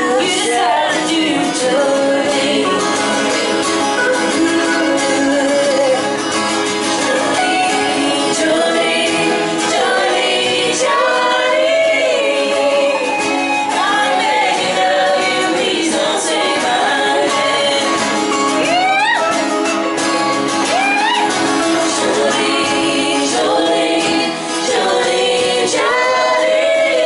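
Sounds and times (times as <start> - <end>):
people singing: 0.0 - 19.3, 20.6 - 27.0
strummed acoustic guitars: 0.0 - 27.0.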